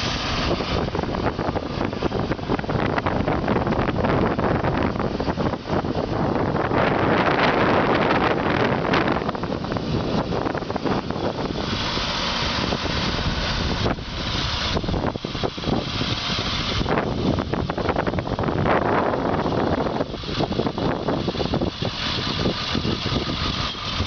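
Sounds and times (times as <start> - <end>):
truck engine running: 0.0 - 24.0
wind buffeting microphone: 0.0 - 24.0.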